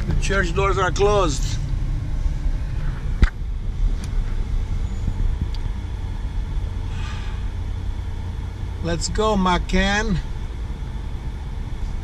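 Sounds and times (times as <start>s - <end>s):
car engine rumbling inside cabin: 0.0s - 12.0s.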